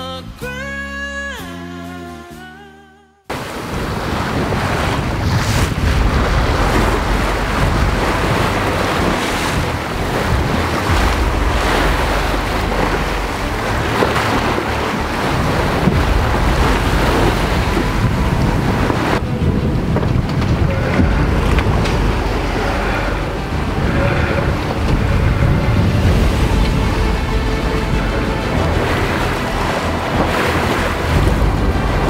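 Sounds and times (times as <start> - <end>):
water washing along a hull: 3.3 - 32.0
wind rumbling on microphone: 3.3 - 32.0.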